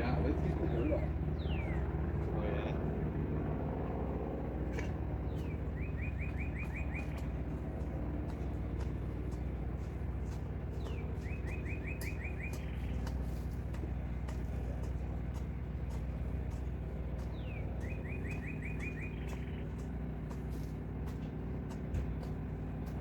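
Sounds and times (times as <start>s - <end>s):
songbird singing: 0.0s - 2.3s, 4.8s - 23.0s
engine idling hum: 0.0s - 23.0s.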